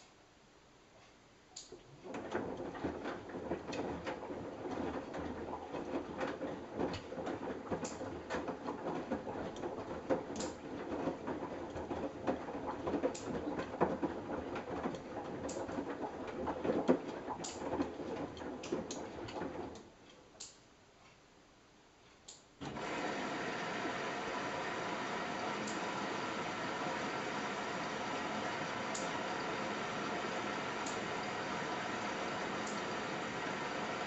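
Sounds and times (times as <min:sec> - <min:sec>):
wet laundry sloshing and knocking: 0:01.9 - 0:19.8, 0:22.6 - 0:34.0
washing machine drum turning: 0:02.0 - 0:19.8, 0:22.6 - 0:34.0.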